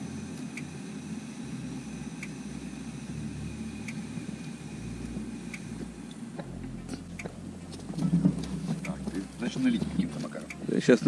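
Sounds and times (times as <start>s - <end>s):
gas stove hissing: 0.0s - 11.0s.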